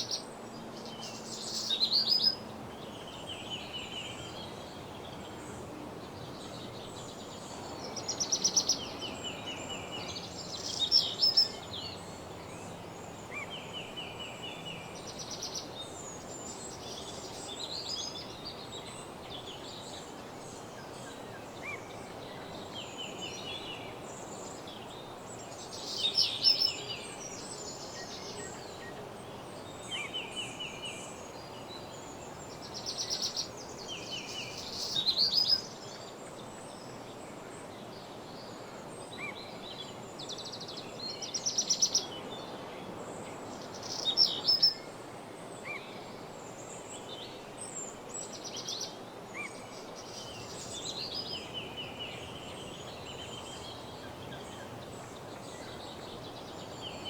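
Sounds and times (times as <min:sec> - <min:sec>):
songbirds trilling: 0:00.0 - 0:36.8, 0:45.6 - 0:57.0
background hiss: 0:00.0 - 0:57.0.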